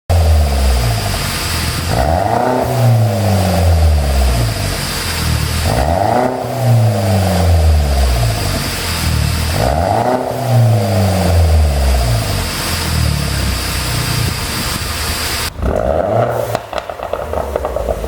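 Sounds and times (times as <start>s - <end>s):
car engine revving: 0.1s - 18.0s
exhaust popping and crackling: 0.1s - 18.0s.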